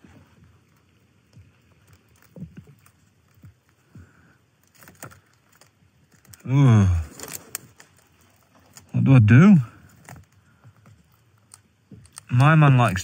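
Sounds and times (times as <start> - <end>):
crisp packet rustling and crinkling: 0.6 - 3.8, 4.6 - 9.1, 9.8 - 13.0.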